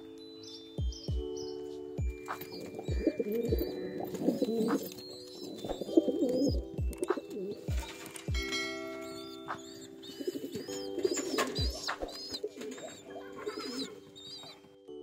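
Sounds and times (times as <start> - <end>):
pigeons cooing: 1.2 - 14.7.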